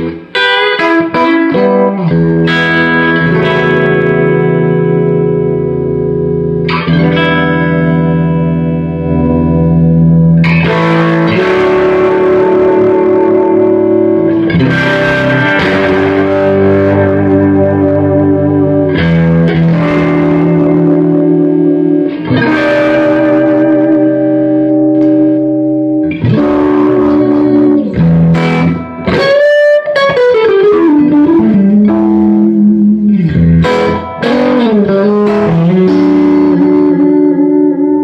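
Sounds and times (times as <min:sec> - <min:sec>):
electric guitar chords: 0:00.0 - 0:38.0
guitar notes sliding down: 0:00.0 - 0:38.0.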